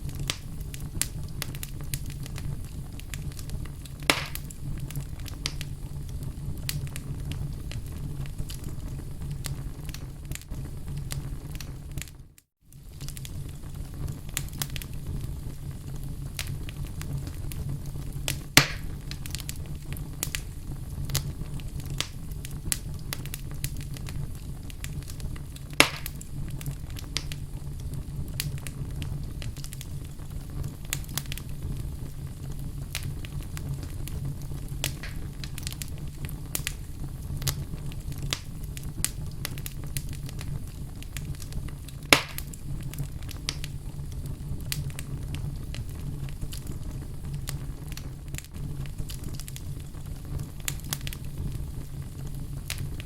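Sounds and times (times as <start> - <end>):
loud fire pops: 0.0 - 53.0
wood fire crackling: 0.0 - 53.0.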